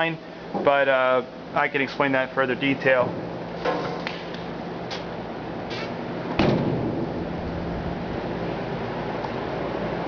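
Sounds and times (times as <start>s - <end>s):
refrigeration unit humming: 0.0s - 10.0s.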